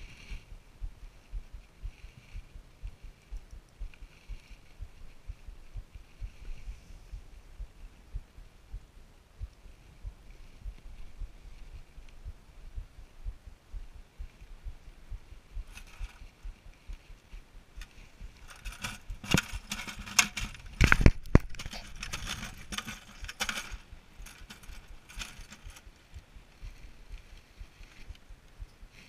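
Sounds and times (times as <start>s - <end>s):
wind rumble on microphone: 0.0s - 29.0s.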